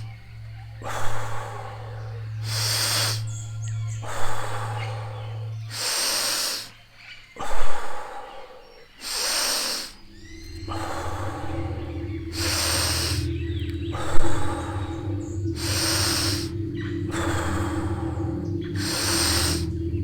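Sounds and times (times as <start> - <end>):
person breathing deeply: 0.0 - 20.0.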